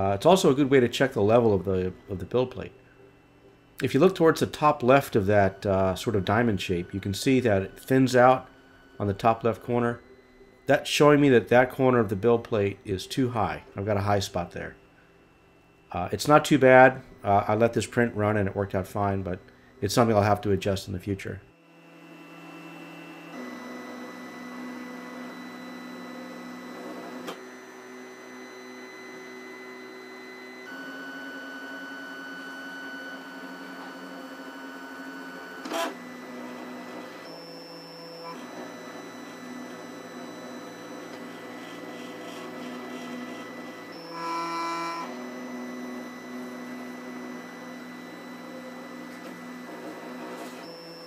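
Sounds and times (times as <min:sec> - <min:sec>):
printer stepper motors whining: 0:00.0 - 0:51.0.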